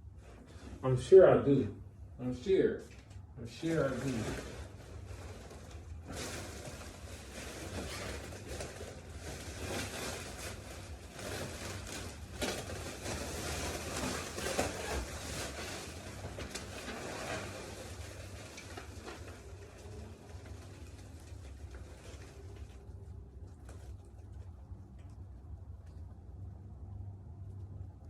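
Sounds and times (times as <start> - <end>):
rustling of rummaged things: 2.8 - 25.6.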